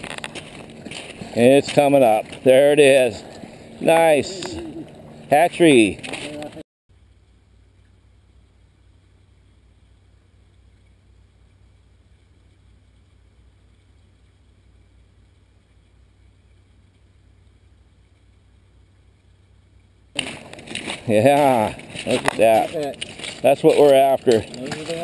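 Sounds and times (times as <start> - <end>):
low rumble with light hiss: 0.0 - 25.0.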